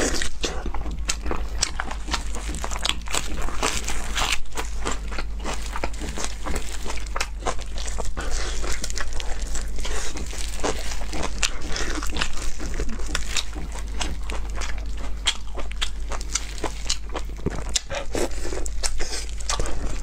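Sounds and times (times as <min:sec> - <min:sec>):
crunchy chewing: 0:00.0 - 0:20.0
tearing fried meat: 0:00.0 - 0:20.0.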